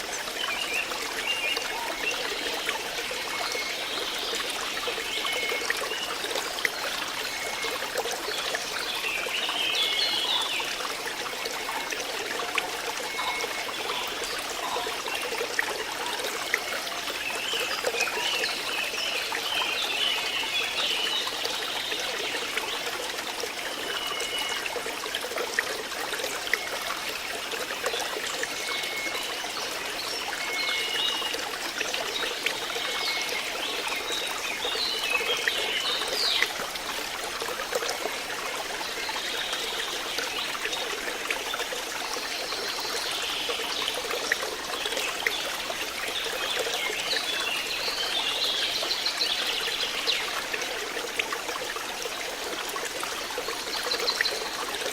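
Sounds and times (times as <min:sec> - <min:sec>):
water flowing and trickling: 0:00.0 - 0:54.9.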